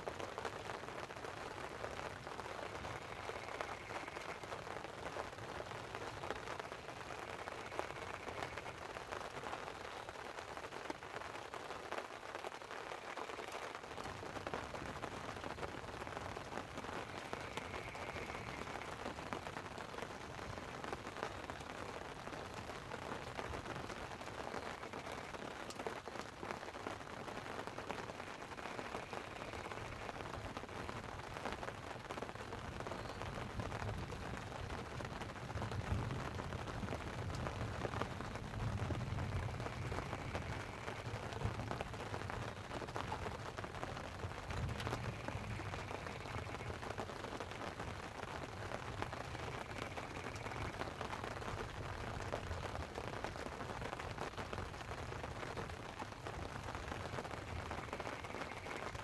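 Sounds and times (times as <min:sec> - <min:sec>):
light rain on a tent: 0:00.0 - 0:59.0.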